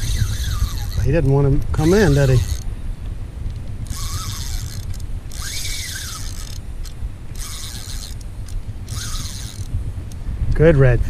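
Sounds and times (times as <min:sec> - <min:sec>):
fishing reel gears whirring: 0:00.0 - 0:02.8, 0:03.5 - 0:10.2
wind rumble on microphone: 0:00.0 - 0:11.0.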